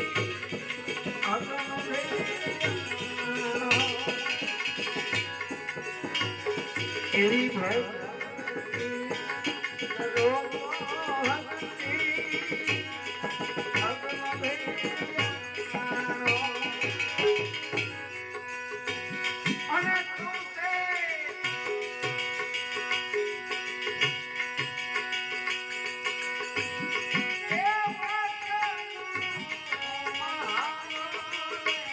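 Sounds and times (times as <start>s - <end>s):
held accompanying tones: 0.0s - 31.9s
tabla drumming: 0.0s - 31.9s.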